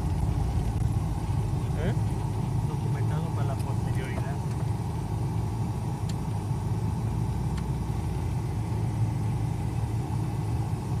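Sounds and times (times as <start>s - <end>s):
tyres on dirt road: 0.0s - 11.0s
vehicle engine rumble: 0.0s - 11.0s.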